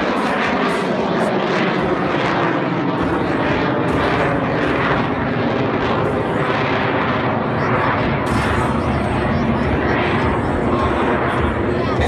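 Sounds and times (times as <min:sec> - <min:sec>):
biplane engines roaring: 0:00.0 - 0:12.0.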